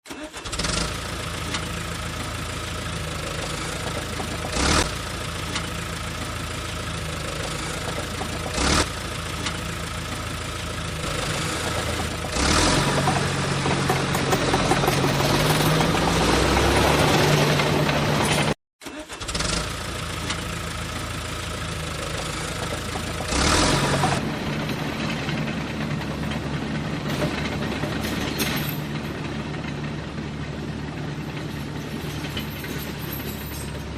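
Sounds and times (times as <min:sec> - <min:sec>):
engine running: 0:00.4 - 0:18.6, 0:19.2 - 0:33.9.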